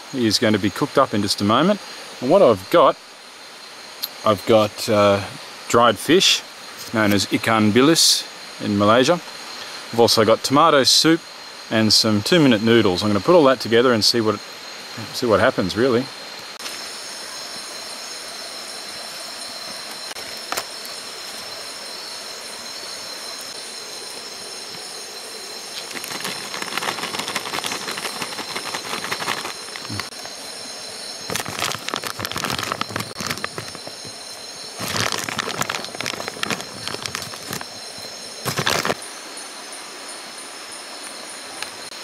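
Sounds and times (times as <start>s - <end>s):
insects chorus at night: 0.0s - 42.0s.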